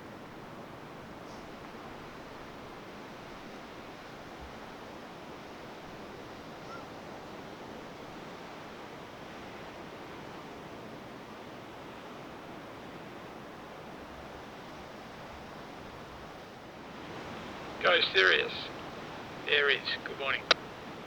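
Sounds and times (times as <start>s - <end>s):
sea noise: 0.0s - 21.0s
wind: 0.0s - 21.0s.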